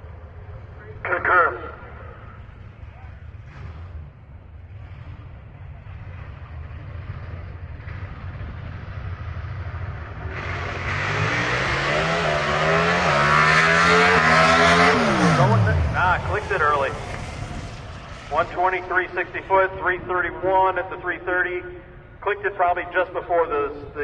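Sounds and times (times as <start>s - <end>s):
drag race car engine: 0.0s - 24.0s.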